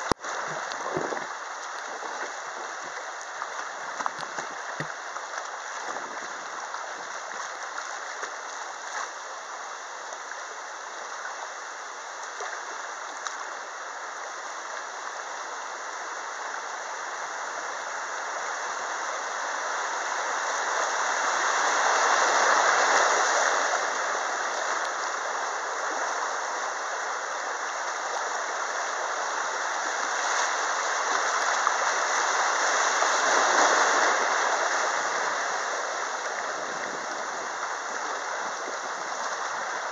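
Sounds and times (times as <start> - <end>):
river water rushing over rapids: 0.0 - 39.9.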